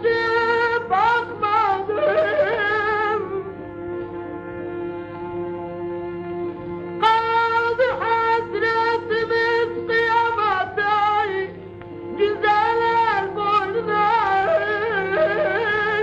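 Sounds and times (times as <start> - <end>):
ornamented sliding melody: 0.0 - 16.0.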